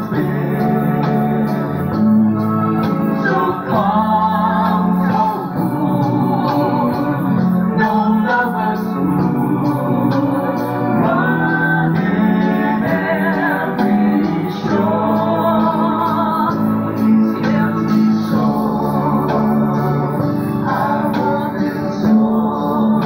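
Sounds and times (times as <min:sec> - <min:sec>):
organ chords: 0:00.0 - 0:23.0
person singing: 0:00.0 - 0:23.0
ticking cymbal beat: 0:00.0 - 0:23.0.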